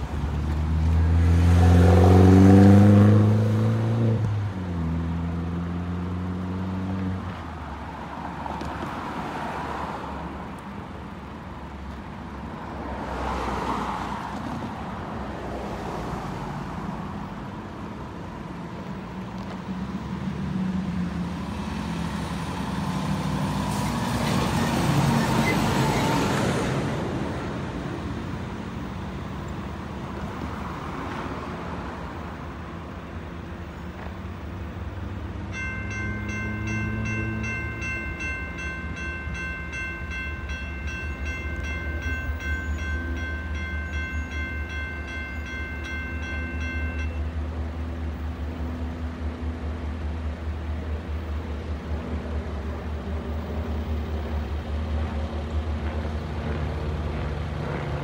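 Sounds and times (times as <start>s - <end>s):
cars passing: 0.0s - 58.0s.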